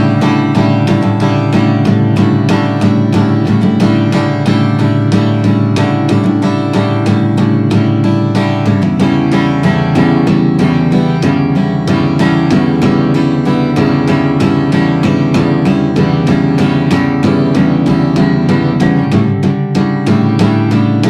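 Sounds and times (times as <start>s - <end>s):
guitar strumming: 0.0s - 21.0s.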